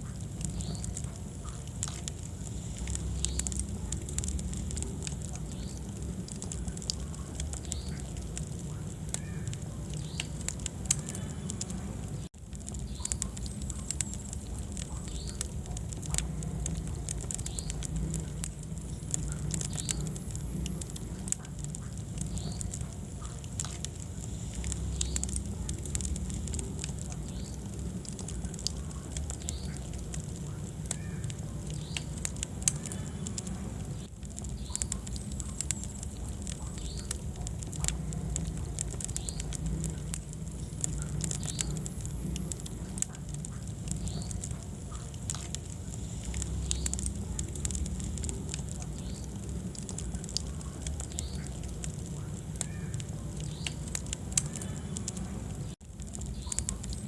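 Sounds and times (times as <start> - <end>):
low rumble of flames: 0.0 - 57.0
wood fire crackling and popping: 0.0 - 57.0.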